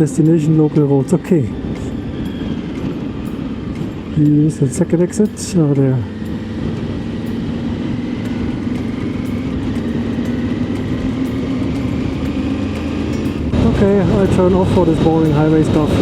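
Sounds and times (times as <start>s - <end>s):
road noise: 0.0s - 16.0s
wind noise: 0.0s - 16.0s
motorcycle engine running: 1.3s - 16.0s.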